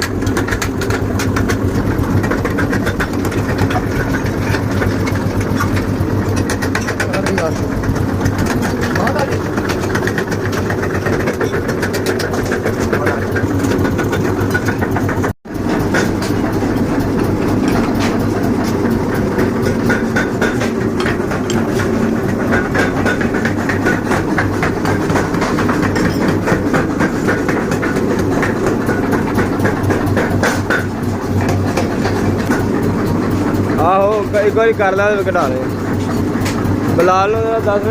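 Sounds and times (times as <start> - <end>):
low motor hum: 0.0 - 37.9
power hammer clattering: 0.0 - 37.9.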